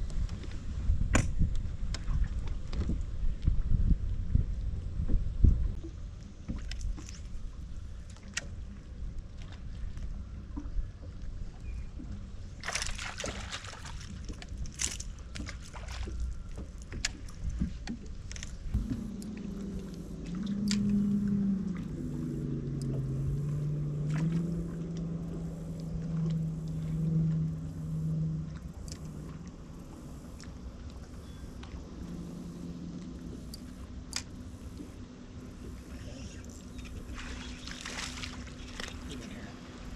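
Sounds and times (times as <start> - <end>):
boat motor humming: 0.0 - 39.9
wind and water rumble: 0.0 - 39.9.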